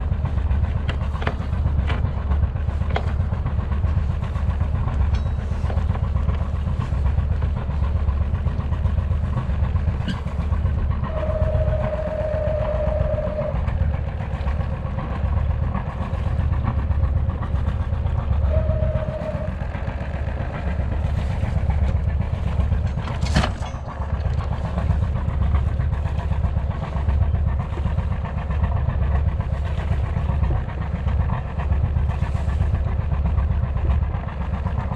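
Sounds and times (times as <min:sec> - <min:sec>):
diesel engine drone: 0:00.0 - 0:34.9.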